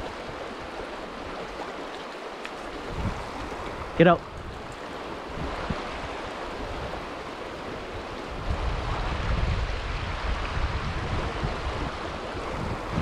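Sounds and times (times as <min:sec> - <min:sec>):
river rushing over rocks: 0:00.0 - 0:13.0
wind rumble on microphone: 0:02.6 - 0:13.0.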